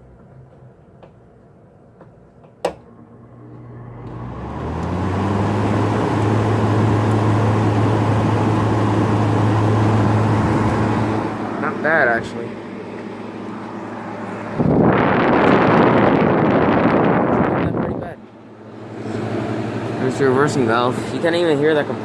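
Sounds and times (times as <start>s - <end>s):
air conditioner fan hum: 0.0s - 22.0s.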